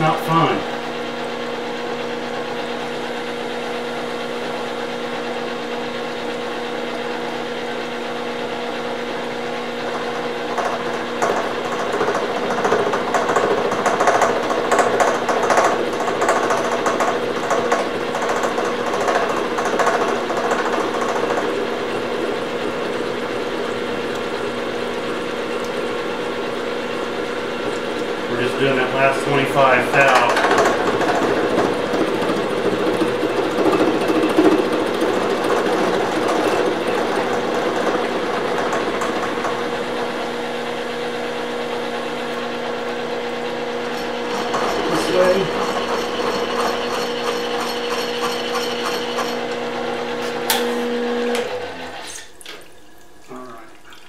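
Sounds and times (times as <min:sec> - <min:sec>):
milling machine humming: 0:00.0 - 0:54.0.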